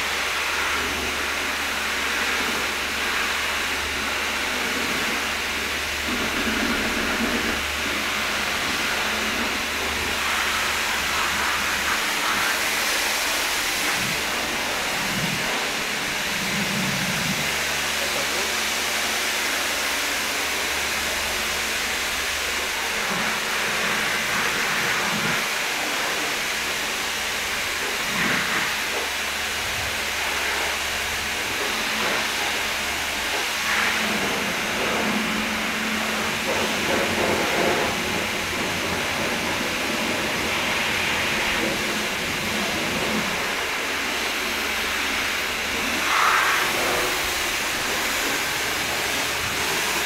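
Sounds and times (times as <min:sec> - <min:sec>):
pressure washer spraying water: 0:00.0 - 0:50.0.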